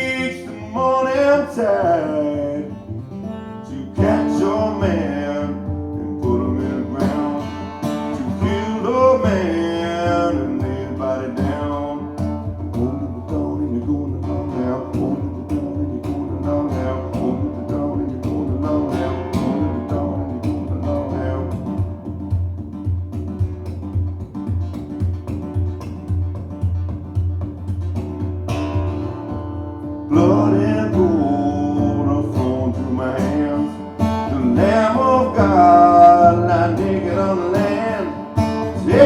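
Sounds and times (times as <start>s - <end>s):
live guitar music: 0.0s - 39.0s.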